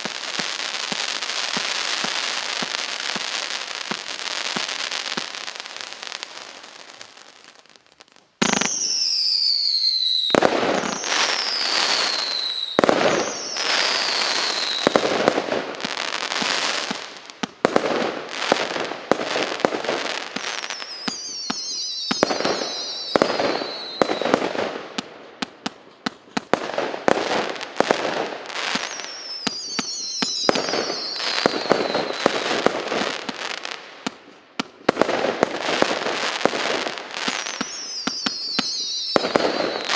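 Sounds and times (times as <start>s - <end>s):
firework launch pops and cracks: 0.0s - 39.9s
whistling firework shots: 0.0s - 39.9s.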